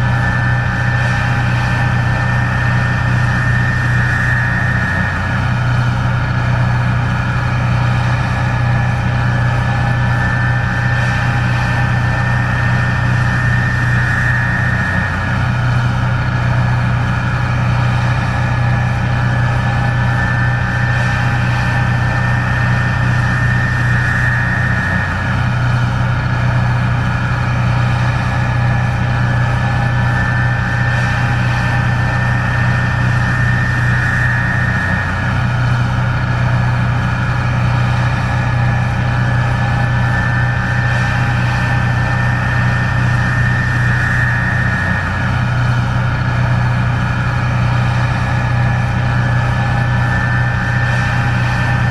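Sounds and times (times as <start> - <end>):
combine harvester diesel drone: 0.0 - 51.9
high-pitched whine: 0.0 - 51.9.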